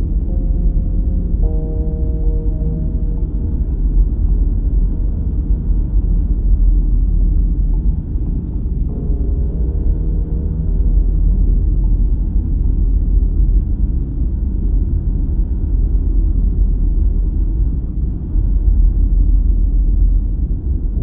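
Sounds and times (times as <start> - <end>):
deep rumbling ambient drone: 0.0 - 21.0.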